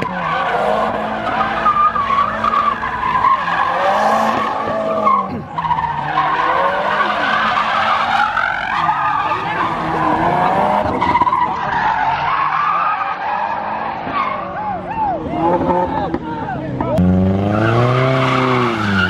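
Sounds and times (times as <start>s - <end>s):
car engine at high revs: 0.0s - 12.0s, 15.2s - 19.0s
tires squealing on pavement: 0.0s - 19.0s.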